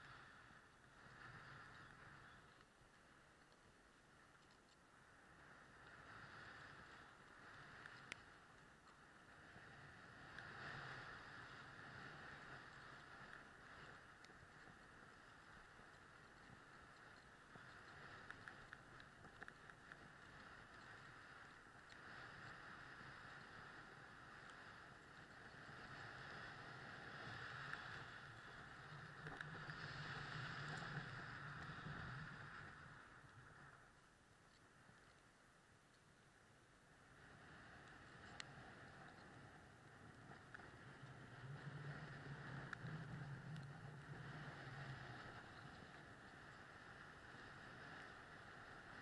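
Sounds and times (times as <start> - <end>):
skis sliding over snow: 0.0 - 33.9, 37.2 - 49.0.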